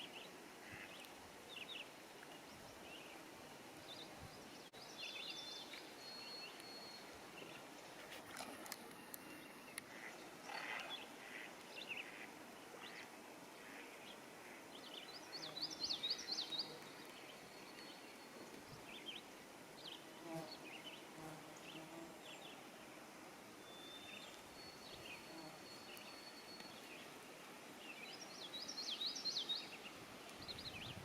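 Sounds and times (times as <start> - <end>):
faint outdoor background: 0.0 - 31.0.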